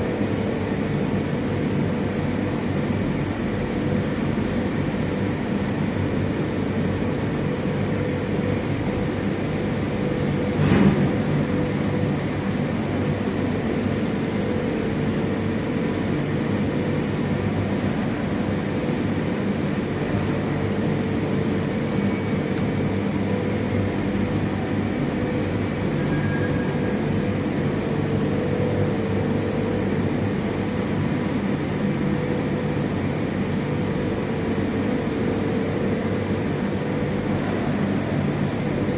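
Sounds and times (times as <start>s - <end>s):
rolling mill machinery drone: 0.0s - 38.9s.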